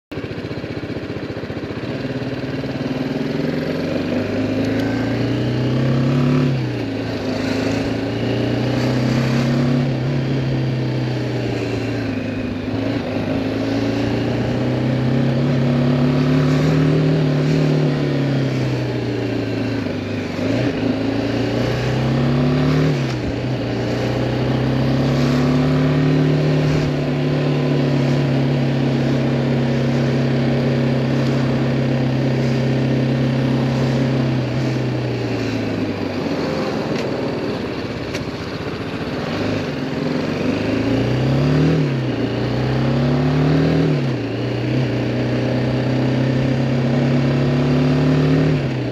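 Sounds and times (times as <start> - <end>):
motorcycle engine revving: 0.1 - 48.9.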